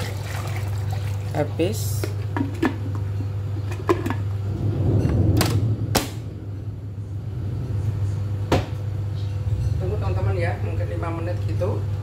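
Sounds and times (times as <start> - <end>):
steady low hum: 1.4 - 12.0.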